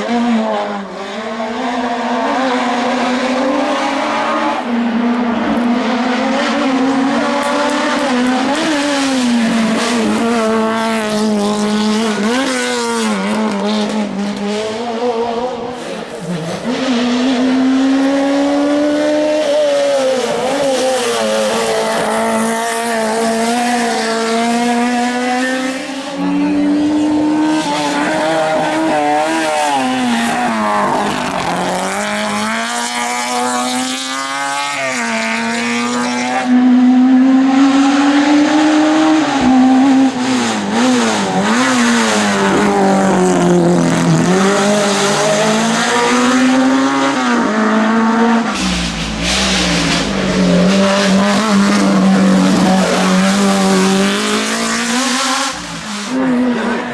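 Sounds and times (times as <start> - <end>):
high-revving race car engine: 0.0 - 56.9.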